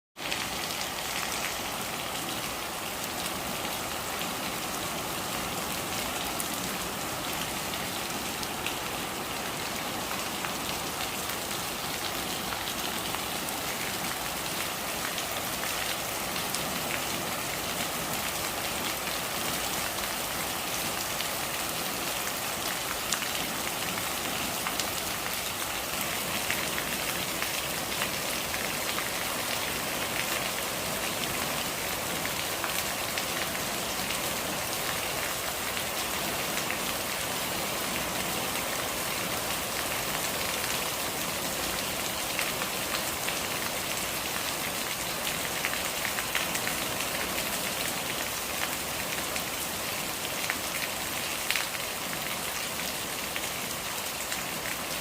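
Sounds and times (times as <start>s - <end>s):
rain pattering on hard surfaces: 5.7s - 55.0s.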